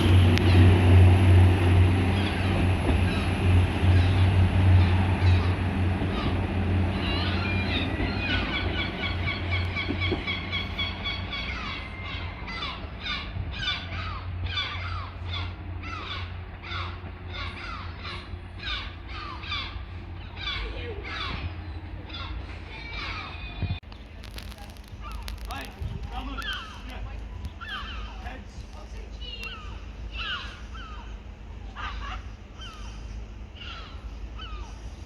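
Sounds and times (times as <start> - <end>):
diesel train engine rumble: 0.0 - 35.0
bird calling harshly: 2.2 - 23.4, 25.0 - 26.9, 27.5 - 28.2, 29.3 - 35.0.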